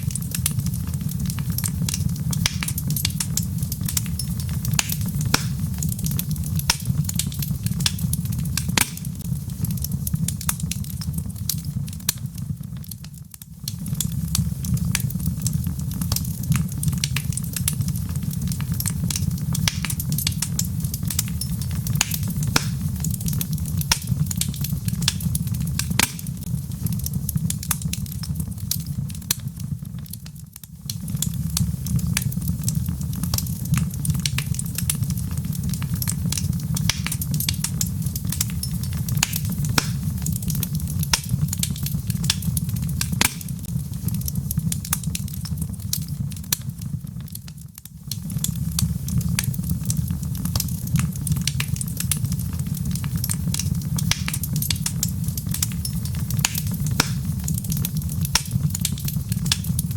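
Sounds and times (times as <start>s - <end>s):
low rumble of flame: 0.0s - 59.9s
wood fire crackling and popping: 0.0s - 59.9s.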